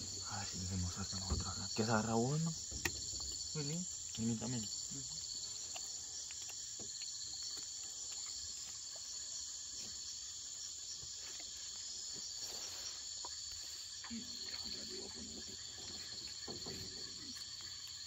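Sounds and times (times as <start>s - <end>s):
crickets and insects trilling: 0.0s - 18.0s.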